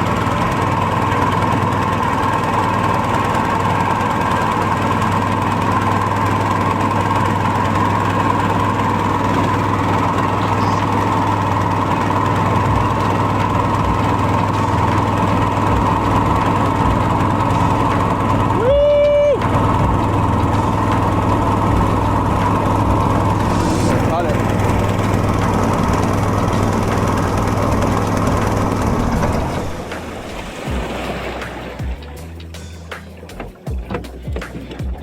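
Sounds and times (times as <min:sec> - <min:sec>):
boat motor running steadily: 0:00.0 - 0:35.0.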